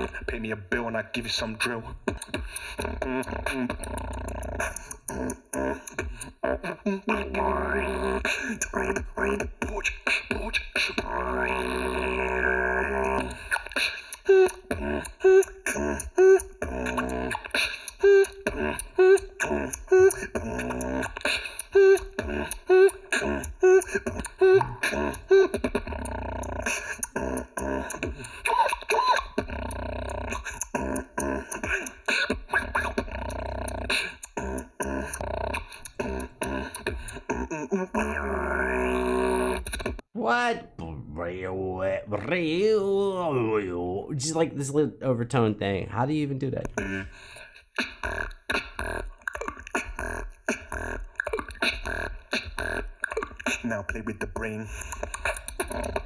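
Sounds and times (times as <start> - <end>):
pitched vocal stabs: 0.0 - 44.9, 46.6 - 56.0
mouth percussion clicks: 1.6 - 6.4, 8.0 - 40.0, 46.7 - 56.0.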